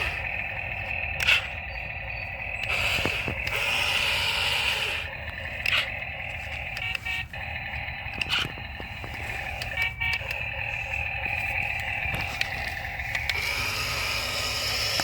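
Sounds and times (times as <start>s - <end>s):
small electric motors whirring: 0.0s - 15.0s.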